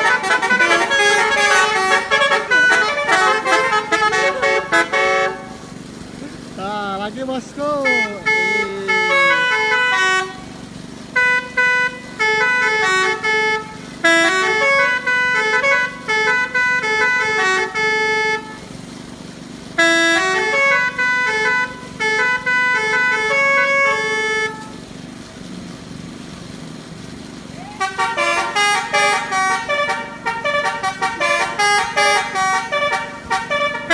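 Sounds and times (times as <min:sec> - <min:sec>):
bus musical horn playing tune: 0:00.0 - 0:05.8, 0:07.6 - 0:18.8, 0:19.7 - 0:24.8, 0:27.6 - 0:33.9.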